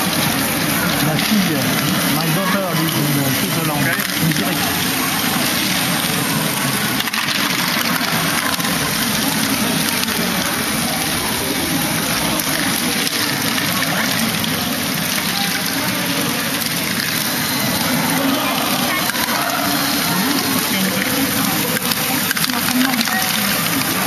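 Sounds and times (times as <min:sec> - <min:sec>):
motorized conveyors running: 0:00.0 - 0:24.0
plastic balls rattling: 0:00.0 - 0:24.0.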